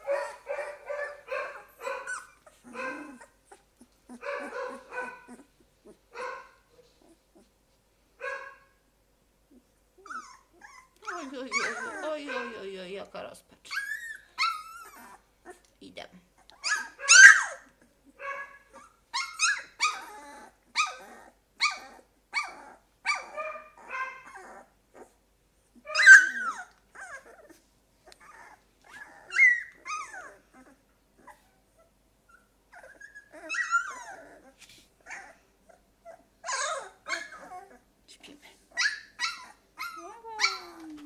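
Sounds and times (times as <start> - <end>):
puppies whining and yelping: 0.0 - 7.6, 9.5 - 12.7, 13.7 - 15.7, 16.4 - 38.0, 38.6 - 41.0.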